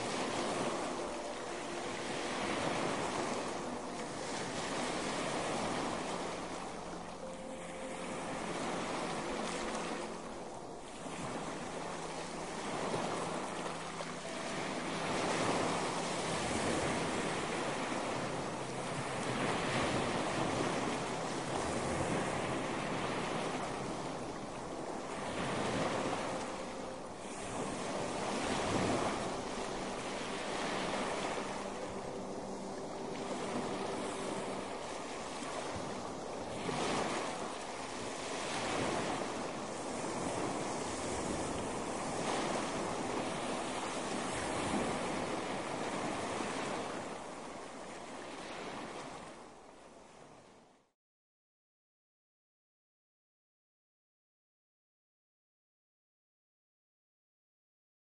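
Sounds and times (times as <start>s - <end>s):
ocean surf breaking: 0.0s - 50.4s.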